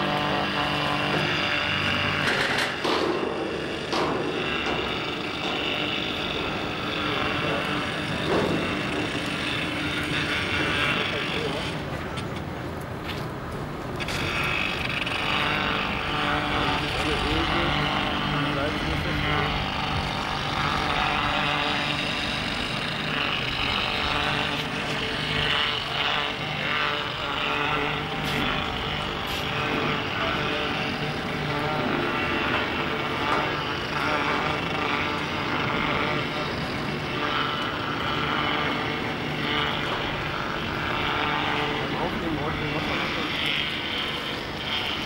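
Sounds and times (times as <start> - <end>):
crane engine running: 0.0 - 45.0.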